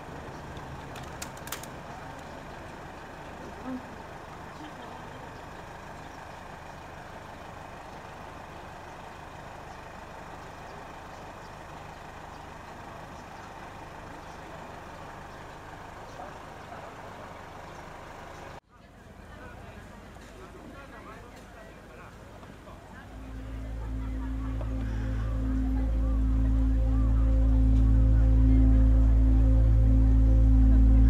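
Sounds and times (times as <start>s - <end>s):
low mechanical drone: 0.0s - 18.6s, 22.0s - 31.0s
outdoor background noise: 0.0s - 31.0s.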